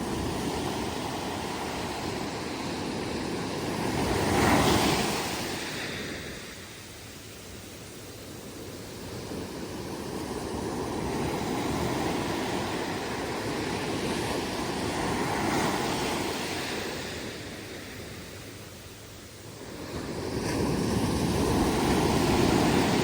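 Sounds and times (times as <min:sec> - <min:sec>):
ocean surf breaking on beach: 0:00.0 - 0:06.9, 0:07.8 - 0:18.8, 0:19.4 - 0:23.0.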